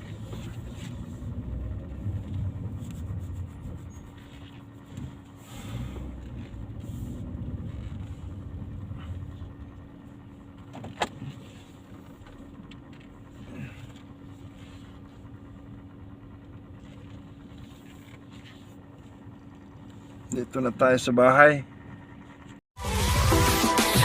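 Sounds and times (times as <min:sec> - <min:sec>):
car interior engine hum: 0:00.0 - 0:22.6.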